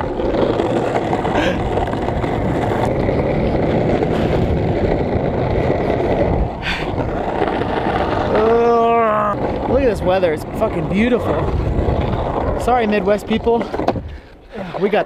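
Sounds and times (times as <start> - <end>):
wind buffeting microphone: 0.0 - 14.8
skateboard wheels rolling on asphalt: 0.0 - 15.0.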